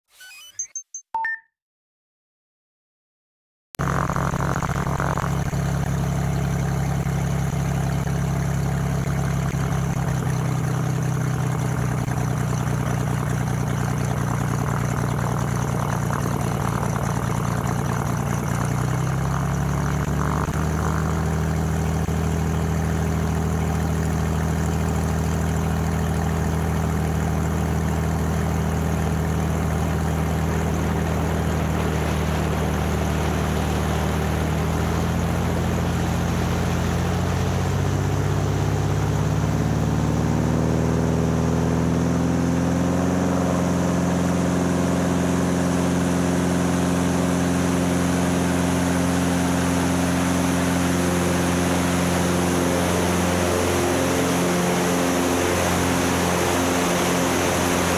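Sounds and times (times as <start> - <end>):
propeller plane engine drone: 3.8 - 57.9.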